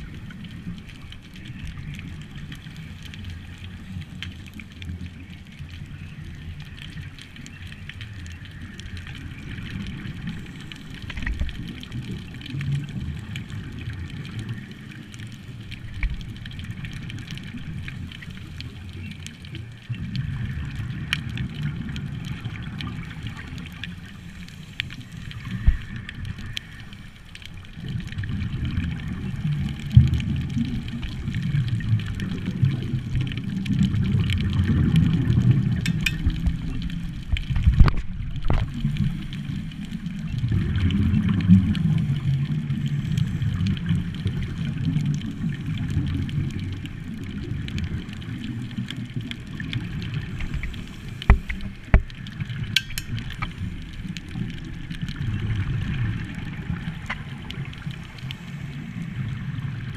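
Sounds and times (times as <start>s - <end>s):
underwater regulator bubbles: 0.0s - 59.9s.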